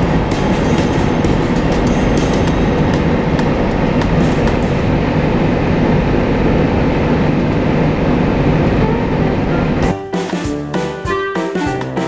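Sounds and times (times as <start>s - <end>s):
road and wind noise inside vehicle: 0.0s - 9.9s.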